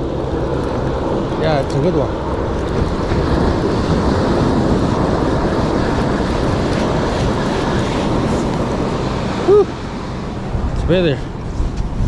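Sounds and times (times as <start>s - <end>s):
wind on microphone: 0.0s - 12.0s
surf breaking: 0.9s - 12.0s.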